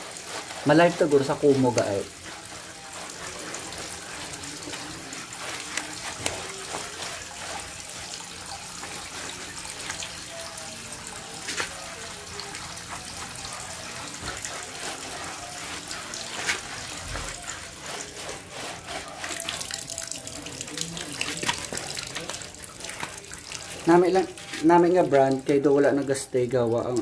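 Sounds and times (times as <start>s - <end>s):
tap water running and splashing: 0.0s - 27.0s.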